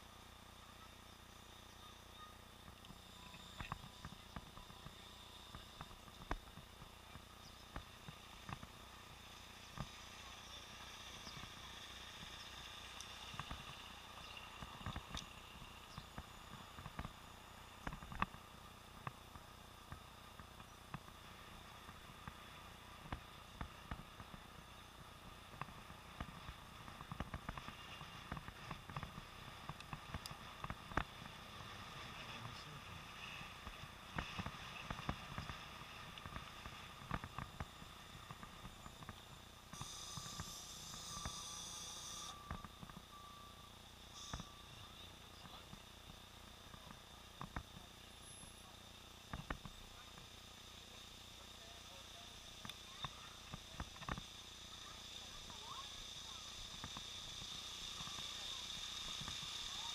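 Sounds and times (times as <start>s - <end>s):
muffled city traffic: 0.0s - 59.9s.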